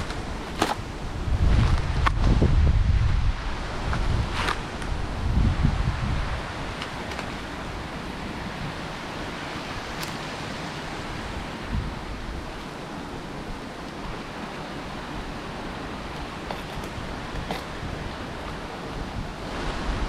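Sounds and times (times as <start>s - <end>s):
rushing wind: 0.0s - 20.0s
wind buffeting microphone: 0.0s - 20.0s.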